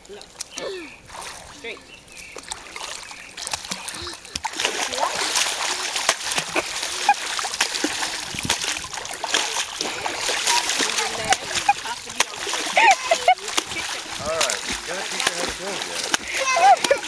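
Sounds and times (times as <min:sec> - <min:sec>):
water splashing from kicking: 0:00.0 - 0:17.0.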